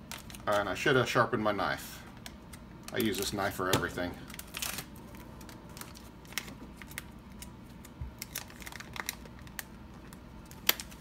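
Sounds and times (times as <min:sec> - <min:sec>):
plastic bag crinkling: 0:00.0 - 0:00.8, 0:02.8 - 0:11.0.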